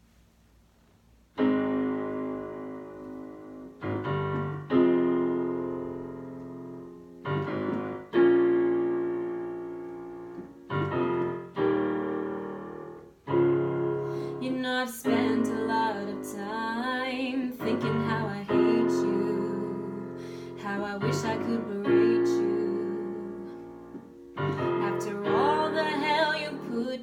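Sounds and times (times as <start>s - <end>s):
digital piano sustained chords: 1.4s - 27.0s.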